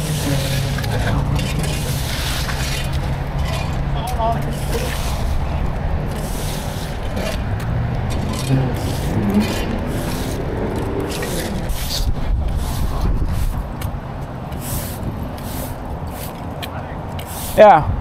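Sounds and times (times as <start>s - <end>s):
push broom scraping asphalt: 0.0s - 17.8s.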